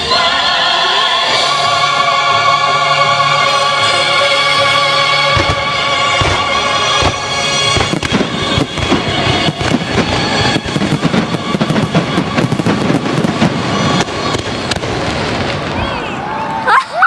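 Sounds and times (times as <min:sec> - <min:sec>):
music: 0:00.0 - 0:15.5.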